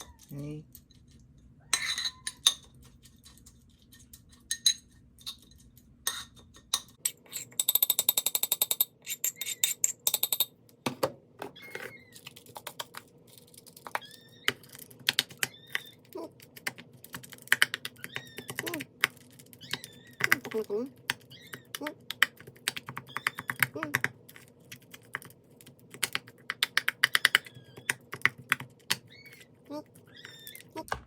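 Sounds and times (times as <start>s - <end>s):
dry food clicking in dishes: 0.0s - 11.0s, 11.7s - 31.0s.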